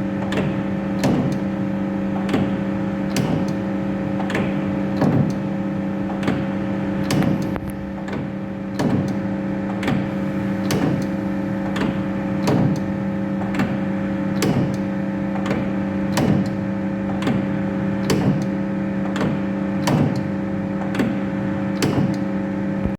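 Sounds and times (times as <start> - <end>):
lathe drive hum: 0.0 - 22.9.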